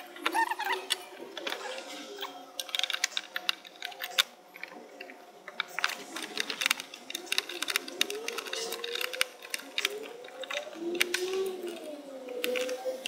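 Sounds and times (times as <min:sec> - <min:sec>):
screwdriver clicks and rattles: 0:02.5 - 0:13.0.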